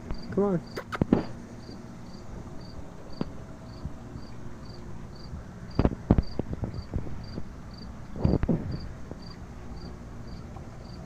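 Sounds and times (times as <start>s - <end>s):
insect chirping: 1.6s - 11.0s.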